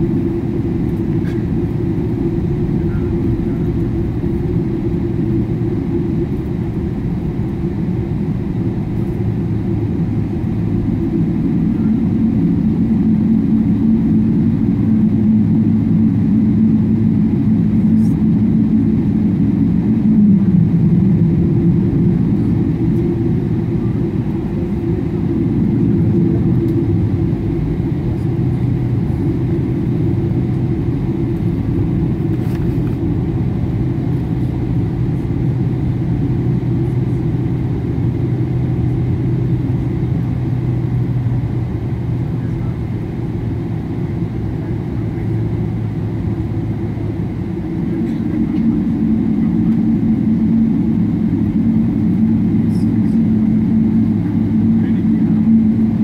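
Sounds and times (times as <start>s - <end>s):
humming tone: 0.0s - 42.6s, 46.4s - 56.0s
jet engine drone in cabin: 0.0s - 56.0s.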